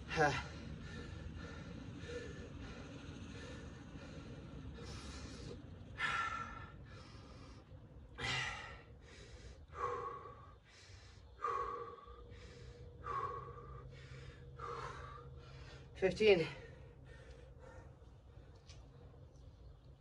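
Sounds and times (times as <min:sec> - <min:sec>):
man breathing hard: 0:00.0 - 0:18.8.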